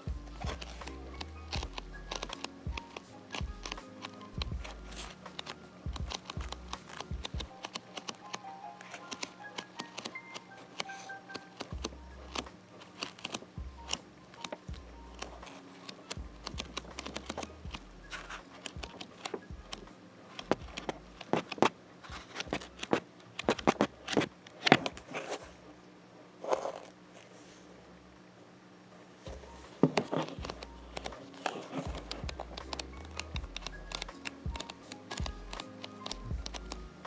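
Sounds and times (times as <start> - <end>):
book pages flipping: 0.0 - 25.6, 26.4 - 27.6, 29.2 - 37.0.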